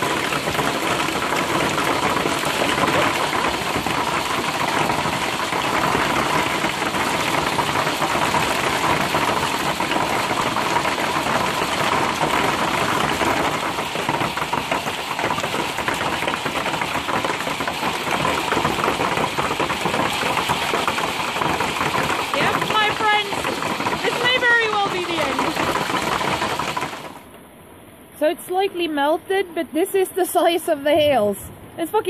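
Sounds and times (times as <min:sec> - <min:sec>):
hail clattering on cars and roofs: 0:00.0 - 0:27.2.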